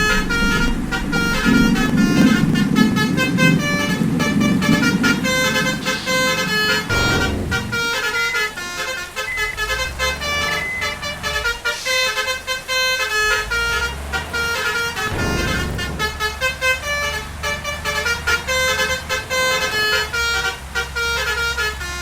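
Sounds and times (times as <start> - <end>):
low vehicle rumble: 0.0 - 22.0
musical air horn melody: 0.0 - 22.0.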